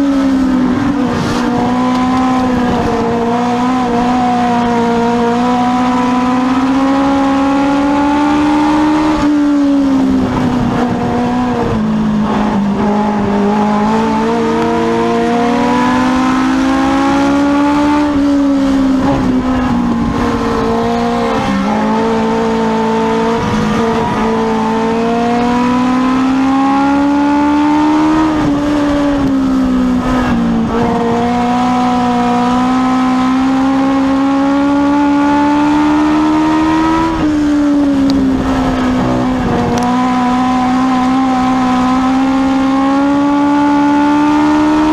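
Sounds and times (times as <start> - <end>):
race car engine at speed: 0.0 - 44.9.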